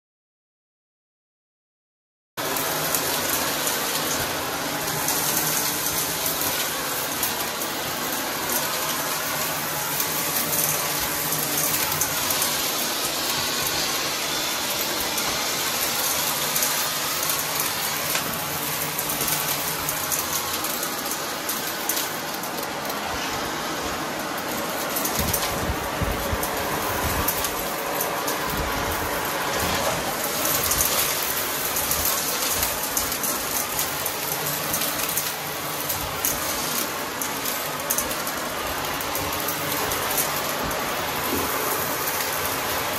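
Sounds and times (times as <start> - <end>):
upright vacuum cleaner running: 2.4 - 42.9.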